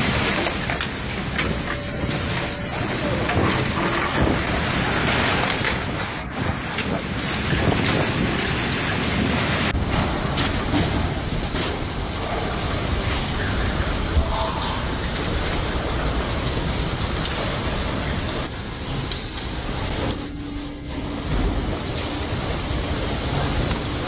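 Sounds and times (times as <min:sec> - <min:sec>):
heavy driving rain: 0:00.0 - 0:24.0
storm wind blasting microphone: 0:00.0 - 0:24.0.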